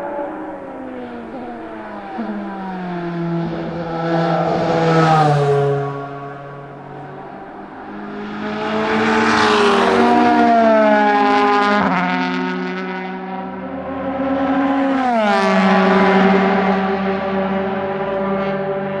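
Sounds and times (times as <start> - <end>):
race car engine at full throttle: 0.0 - 19.0.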